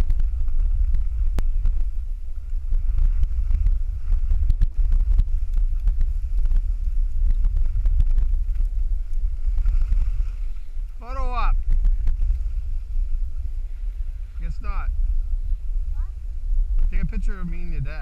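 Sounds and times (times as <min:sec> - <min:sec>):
wind buffeting camera microphone: 0:00.0 - 0:18.0.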